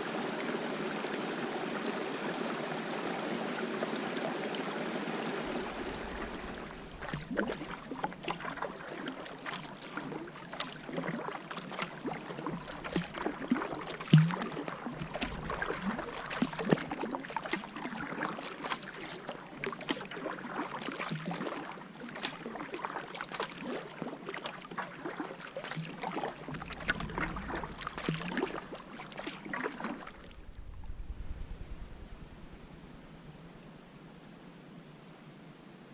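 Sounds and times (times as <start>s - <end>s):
paddle strokes splashing water: 0.0s - 32.7s
rushing water: 0.0s - 33.7s.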